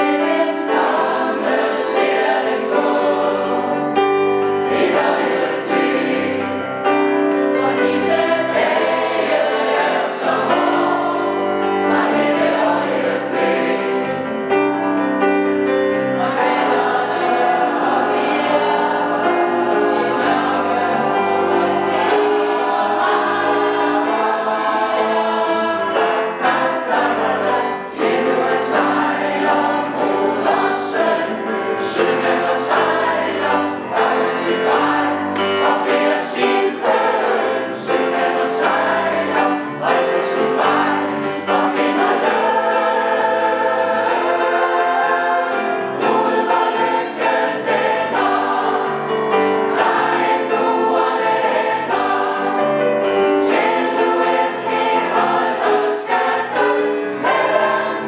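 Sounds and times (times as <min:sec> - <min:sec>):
mixed choir singing in harmony: 0:00.0 - 0:58.0.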